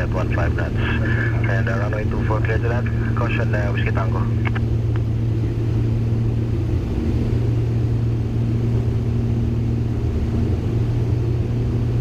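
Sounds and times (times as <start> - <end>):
piston aircraft engines droning: 0.0 - 12.0.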